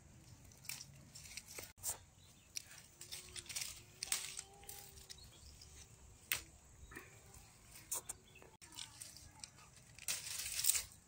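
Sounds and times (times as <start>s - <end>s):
hand rustling through vines and leaves: 0.1s - 6.6s, 7.2s - 11.0s.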